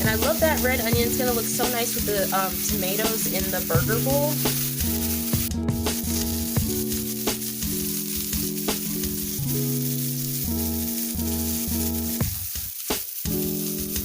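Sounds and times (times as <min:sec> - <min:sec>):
background music: 0:00.0 - 0:12.5, 0:13.1 - 0:14.0
food sizzling in a frying pan: 0:00.0 - 0:14.0.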